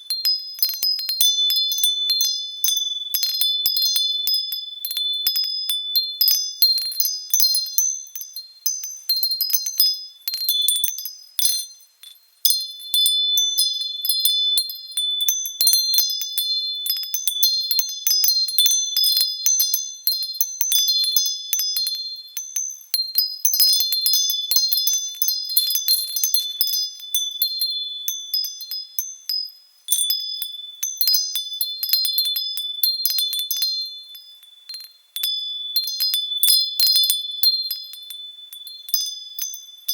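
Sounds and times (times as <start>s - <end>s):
wind chime ringing: 0.0s - 39.9s.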